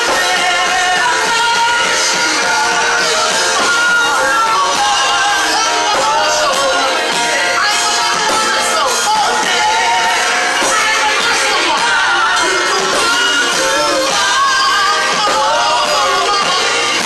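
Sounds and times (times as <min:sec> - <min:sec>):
gospel singers with amplified backing: 0:00.0 - 0:17.0.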